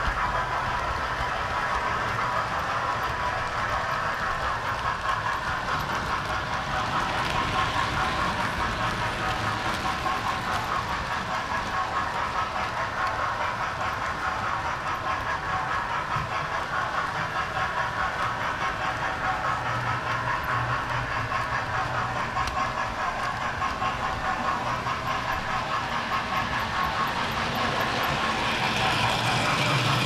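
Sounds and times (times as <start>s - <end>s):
model train wheels clattering on rails: 0.0s - 30.0s.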